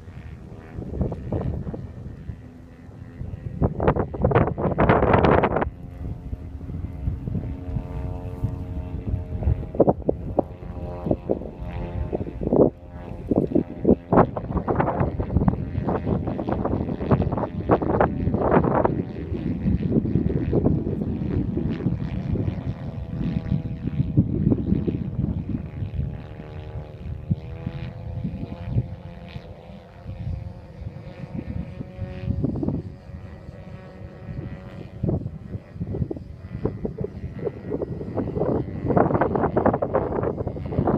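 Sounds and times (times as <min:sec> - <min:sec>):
gusty wind rumble: 0:00.0 - 0:40.9
model airplane engine drone: 0:00.0 - 0:40.9.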